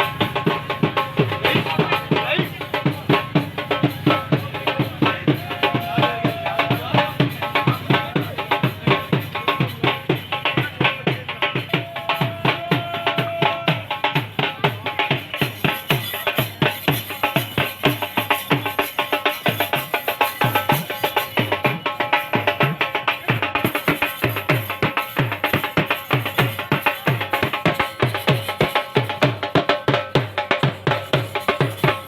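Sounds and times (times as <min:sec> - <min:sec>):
fast hand drum playing: 0:00.0 - 0:32.0.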